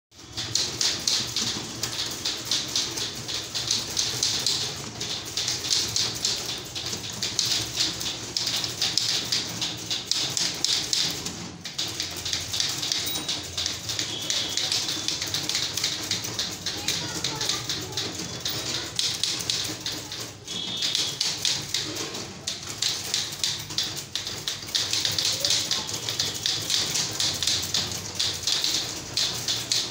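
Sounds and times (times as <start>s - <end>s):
typewriter keys clattering: 0.2s - 29.9s.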